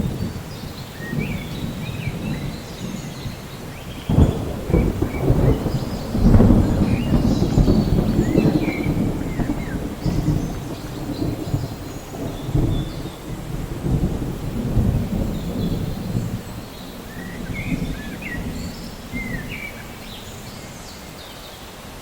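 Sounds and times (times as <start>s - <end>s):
thunder rumbling: 0.0s - 20.9s
birds chirping: 0.0s - 21.7s
steady rain: 0.0s - 22.0s.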